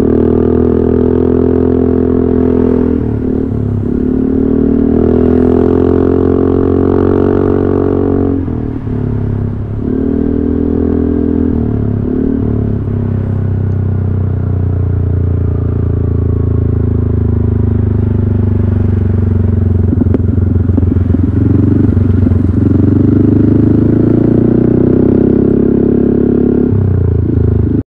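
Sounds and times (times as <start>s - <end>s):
scooter engine exhaust note: 0.0s - 27.8s.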